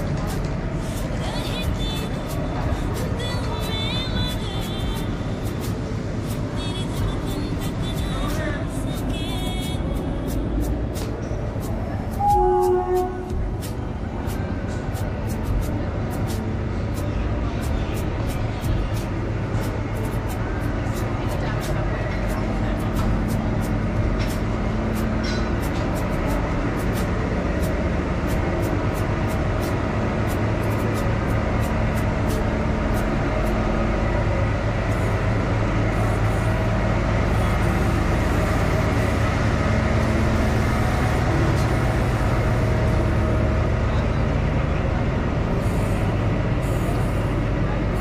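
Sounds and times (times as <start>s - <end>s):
train rumbling on track: 0.0s - 48.0s.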